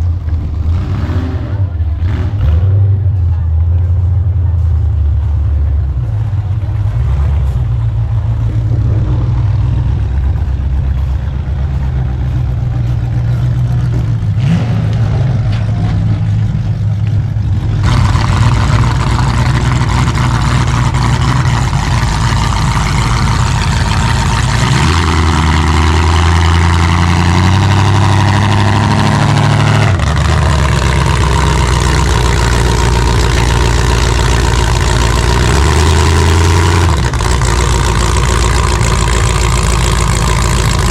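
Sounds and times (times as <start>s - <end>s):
car engines running: 0.0s - 40.9s
rough engine revving: 0.0s - 40.9s.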